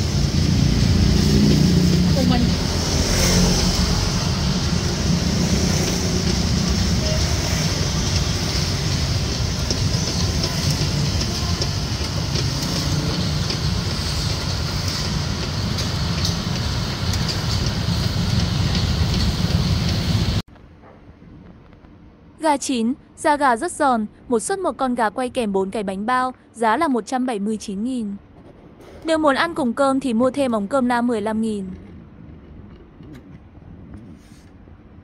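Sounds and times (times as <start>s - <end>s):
street traffic rumble: 0.0s - 21.8s, 28.3s - 35.0s.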